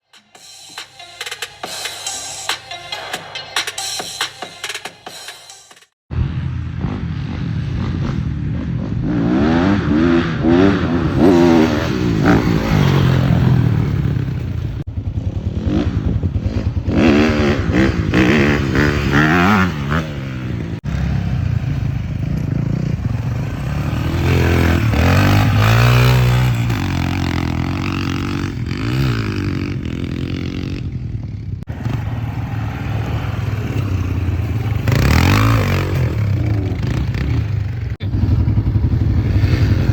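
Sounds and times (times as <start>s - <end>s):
vehicle engine revving: 6.2s - 39.9s.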